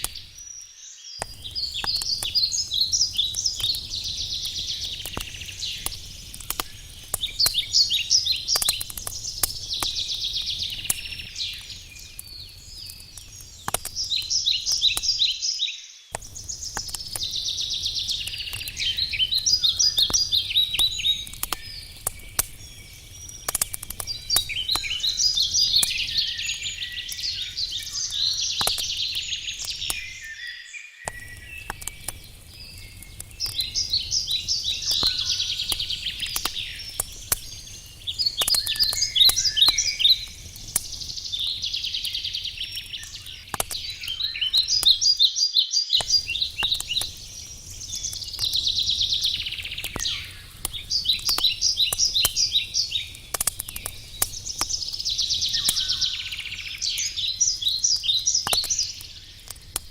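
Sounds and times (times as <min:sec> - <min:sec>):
campfire crackling and popping: 0:00.0 - 0:00.6, 0:01.2 - 0:15.5, 0:16.1 - 0:30.4, 0:31.0 - 0:59.9
songbirds trilling: 0:00.0 - 0:59.8.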